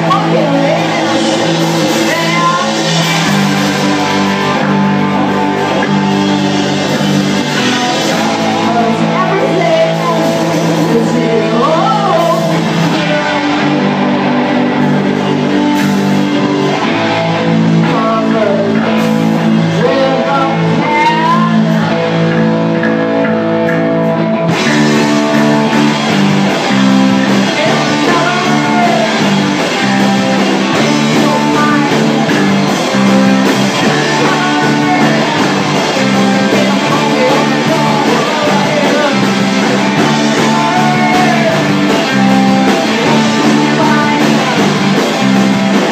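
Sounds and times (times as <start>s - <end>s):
live rock band playing: 0.0s - 45.9s
person singing: 0.0s - 45.9s.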